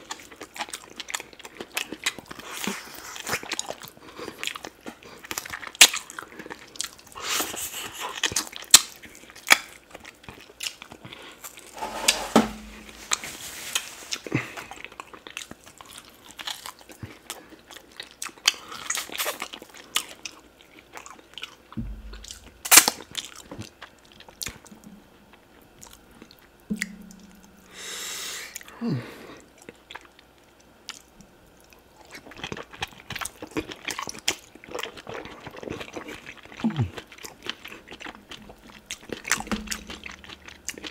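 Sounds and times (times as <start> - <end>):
biting and chewing meat: 0.0 - 11.8, 14.1 - 27.8, 29.5 - 40.9.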